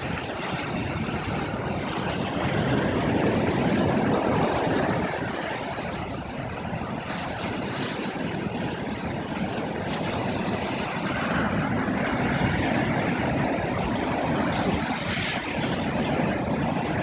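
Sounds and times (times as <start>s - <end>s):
waves breaking on sand: 0.0s - 17.0s
wind rumbling on microphone: 0.0s - 17.0s.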